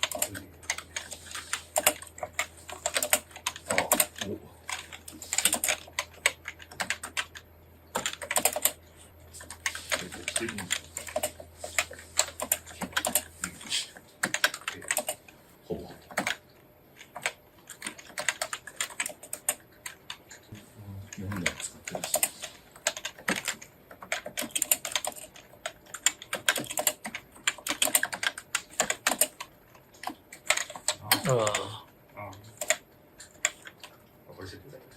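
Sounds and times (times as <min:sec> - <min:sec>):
fast typing on keyboard: 0:00.0 - 0:16.4, 0:17.0 - 0:34.1.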